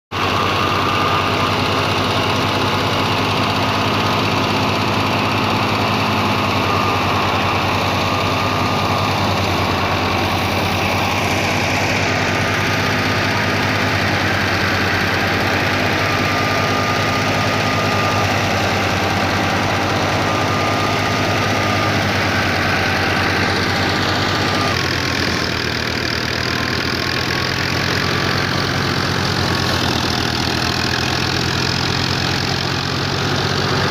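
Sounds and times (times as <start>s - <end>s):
thresher engine humming: 0.1s - 33.9s
thin machine whine: 0.2s - 33.9s.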